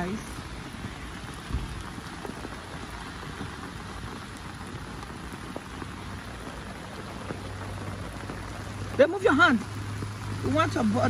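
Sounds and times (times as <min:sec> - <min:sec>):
rain falling on wet street: 0:00.0 - 0:11.0.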